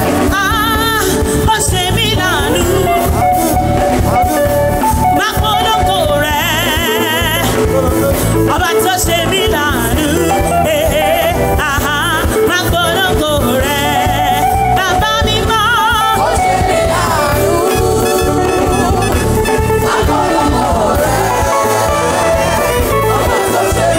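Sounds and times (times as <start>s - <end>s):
band with pulsing bass: 0.0s - 23.9s
people singing with vibrato: 0.0s - 23.9s.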